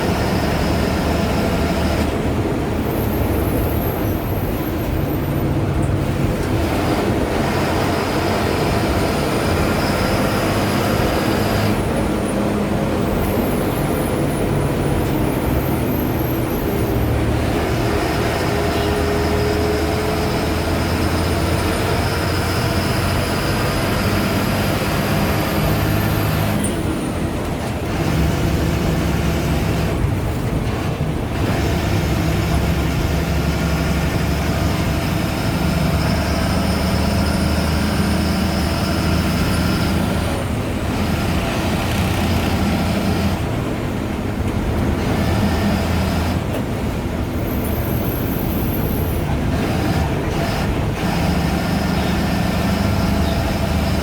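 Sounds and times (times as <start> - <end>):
diesel bus engine pulling: 0.0 - 54.0.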